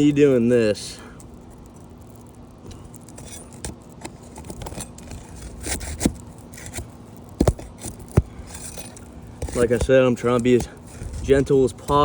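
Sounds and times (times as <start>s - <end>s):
metal bar scraping under shingles: 0.0s - 12.0s.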